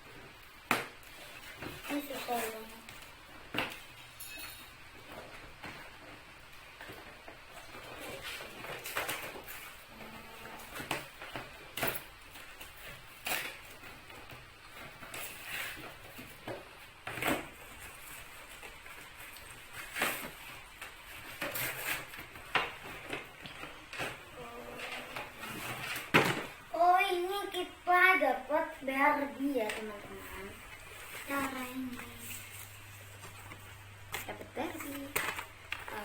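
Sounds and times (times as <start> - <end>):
plastic and cardboard crinkling: 0.0 - 4.0, 4.8 - 36.0.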